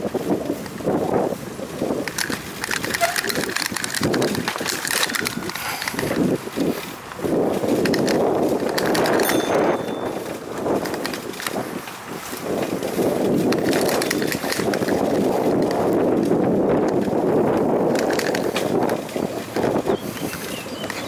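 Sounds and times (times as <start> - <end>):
bicycle tyres on dirt: 0.0 - 21.0
bike clicks and rattles: 0.0 - 21.0.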